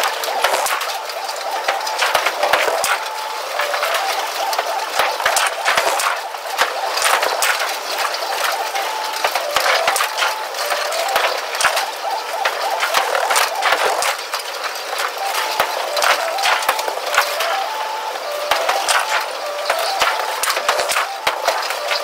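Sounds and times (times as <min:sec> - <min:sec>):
bowling pins and balls clattering: 0:00.0 - 0:22.0.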